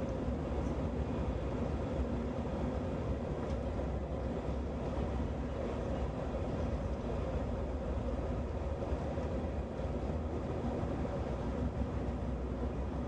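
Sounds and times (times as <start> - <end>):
jet engines at low thrust: 0.0 - 13.0
wheels rumbling on taxiway: 0.0 - 13.0.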